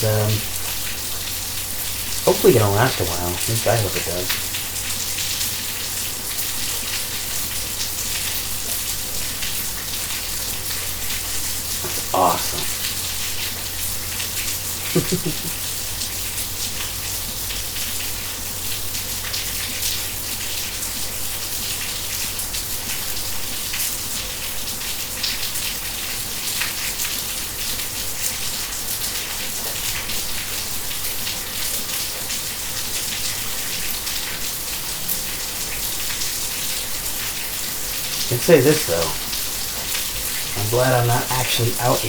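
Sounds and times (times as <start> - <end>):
raindrops hitting close by: 0.0 - 42.0
steady rain: 0.0 - 42.0.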